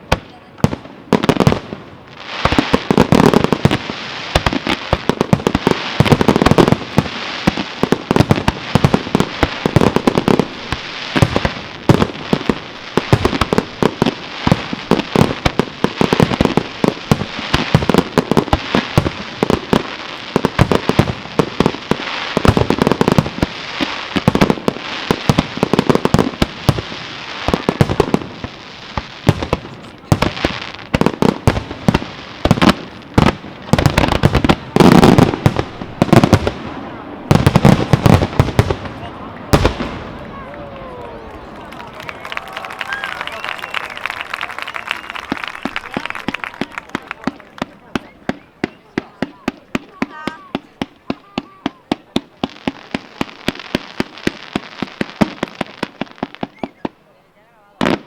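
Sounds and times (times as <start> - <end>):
fireworks bursts and crackling: 0.0 - 58.0.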